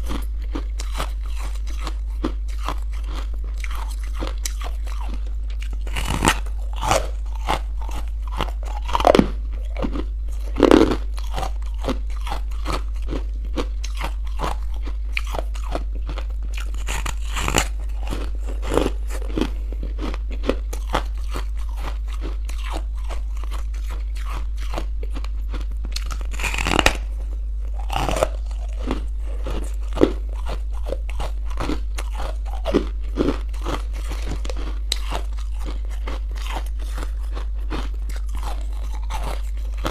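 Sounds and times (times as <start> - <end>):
crunchy food being chewed: 0.0 - 39.9
steady low hum: 0.0 - 39.9.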